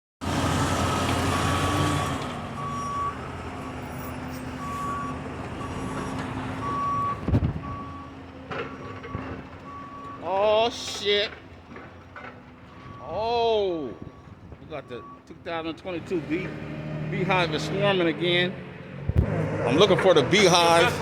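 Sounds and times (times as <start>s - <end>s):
engine rumble: 0.2s - 21.0s.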